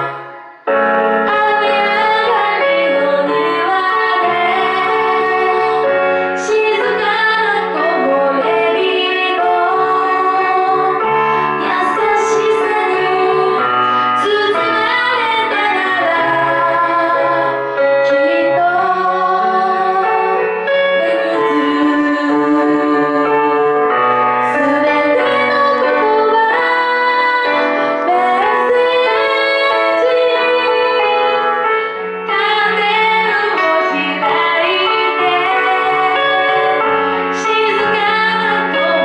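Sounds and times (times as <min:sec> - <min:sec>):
keyboard accompaniment: 0:00.0 - 0:39.0
woman singing a pop ballad: 0:01.2 - 0:39.0.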